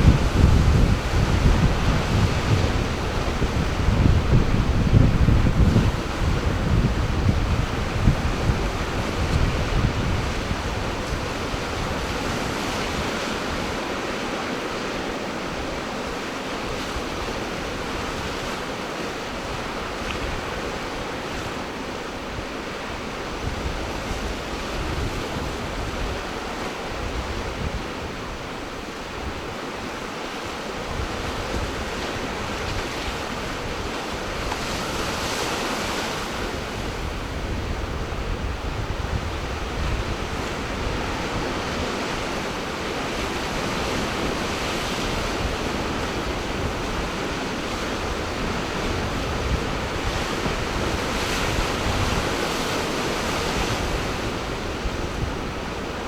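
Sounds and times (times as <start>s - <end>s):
wind buffeting microphone: 0.0s - 21.7s, 22.9s - 29.8s, 30.5s - 56.0s
ocean surf washing: 0.0s - 56.0s.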